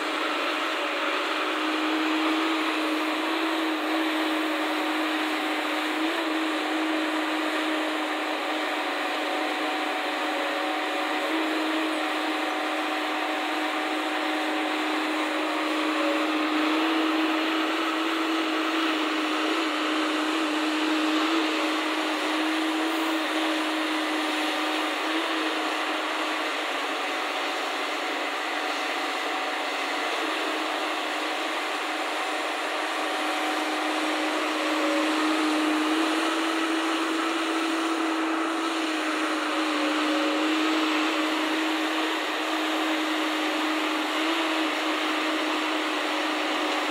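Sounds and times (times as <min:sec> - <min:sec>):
excavator engine droning: 0:00.0 - 0:46.9.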